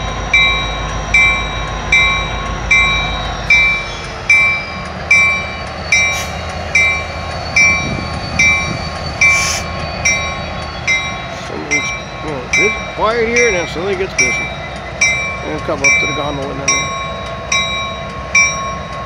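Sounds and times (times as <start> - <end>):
bell ringing: 0.0 - 19.0
diesel locomotive rumble: 0.0 - 19.0.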